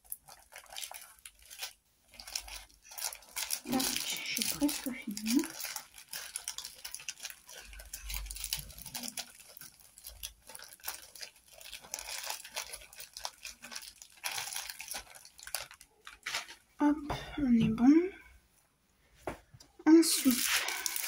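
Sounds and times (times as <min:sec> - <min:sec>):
plastic bags crinkling: 0:00.0 - 0:16.8, 0:20.0 - 0:21.0.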